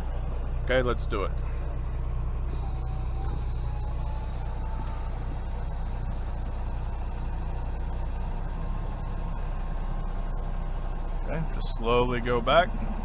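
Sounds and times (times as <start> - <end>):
diesel truck engine idling: 1.5 - 13.0.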